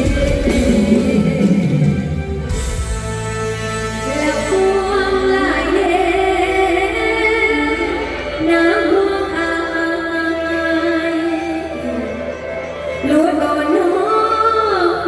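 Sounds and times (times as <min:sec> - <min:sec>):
woman singing with vibrato: 0:00.0 - 0:02.9, 0:03.8 - 0:15.0
band playing pop music: 0:00.0 - 0:15.0.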